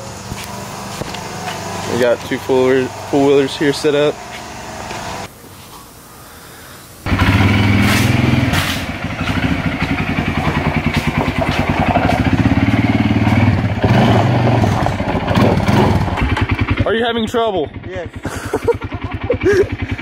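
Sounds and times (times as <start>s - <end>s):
atv engine running: 0.0s - 5.3s, 7.0s - 20.0s.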